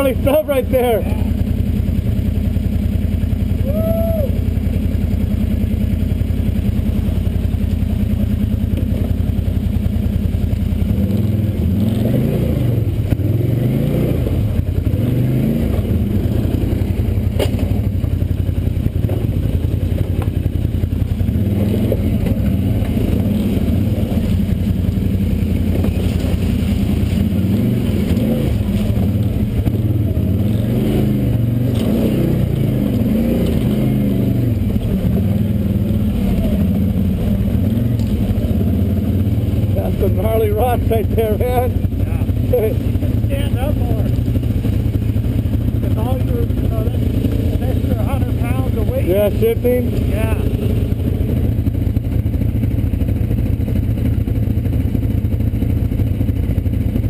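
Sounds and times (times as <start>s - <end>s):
quad engine idling and revving: 0.0s - 57.0s.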